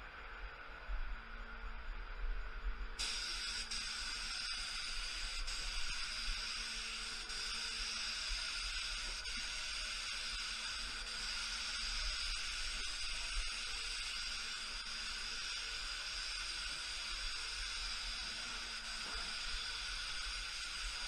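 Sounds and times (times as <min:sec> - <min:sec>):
faint low hum: 0:00.0 - 0:21.0
paint spray gun hissing: 0:03.0 - 0:21.0.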